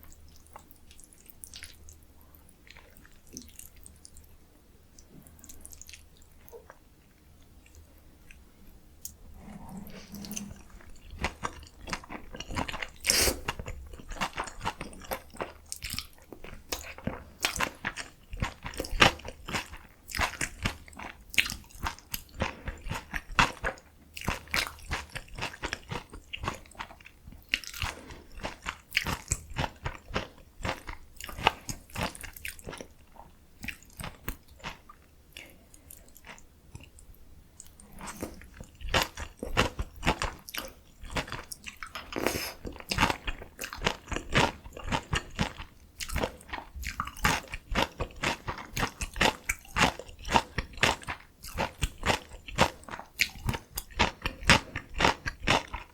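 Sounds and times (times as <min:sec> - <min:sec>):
crunching and wet chewing: 0:00.0 - 0:08.4, 0:09.0 - 0:55.9.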